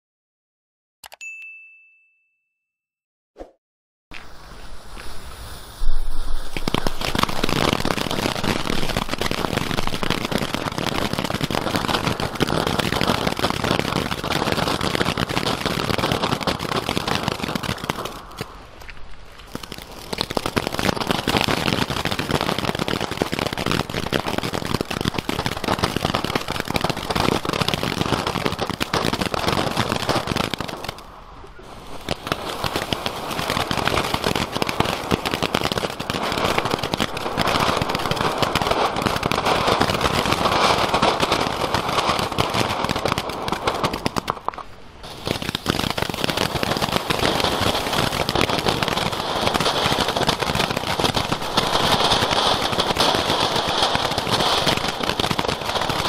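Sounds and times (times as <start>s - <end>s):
fountain fireworks crackling: 4.1s - 56.0s.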